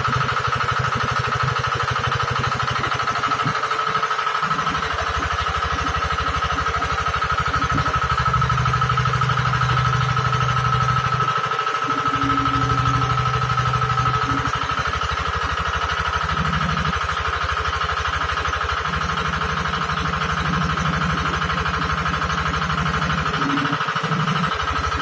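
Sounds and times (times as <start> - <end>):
drilling rig engine running: 0.0 - 25.0.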